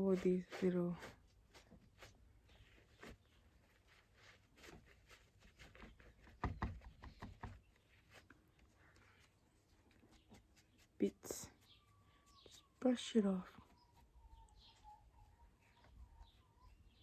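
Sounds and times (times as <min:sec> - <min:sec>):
faint rustling: 0:00.0 - 0:17.0.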